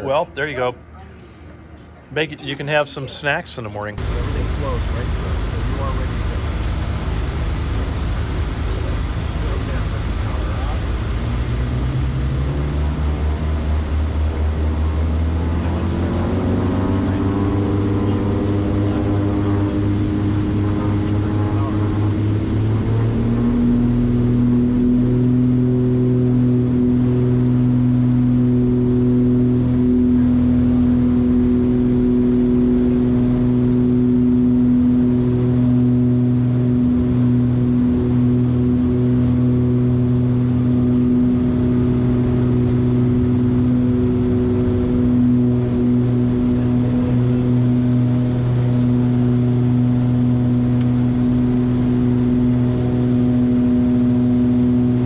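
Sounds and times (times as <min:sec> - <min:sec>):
aircraft engines droning in cabin: 0:00.0 - 0:55.0.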